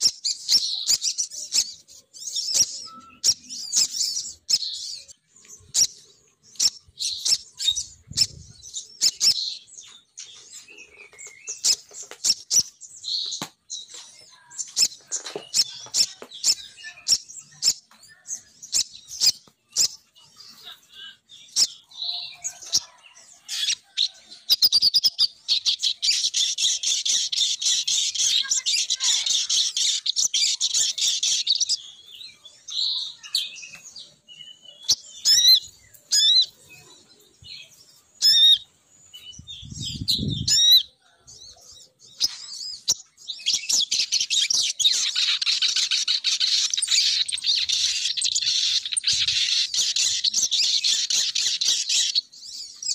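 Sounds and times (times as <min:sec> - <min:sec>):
bird calls chips and chattering: 0:00.0 - 0:52.9.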